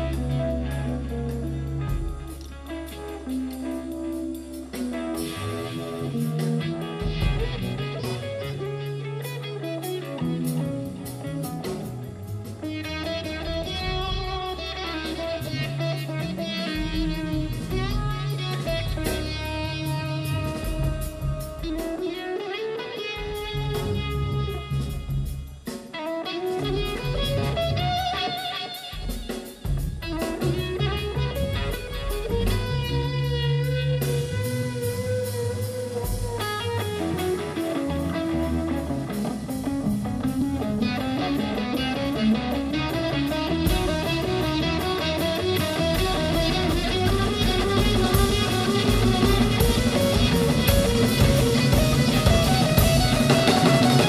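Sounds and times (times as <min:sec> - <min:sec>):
bass line: 0:00.0 - 0:22.0, 0:23.4 - 0:25.6, 0:29.6 - 0:54.0
drums: 0:00.0 - 0:54.0
electric guitar lead: 0:00.0 - 0:54.0.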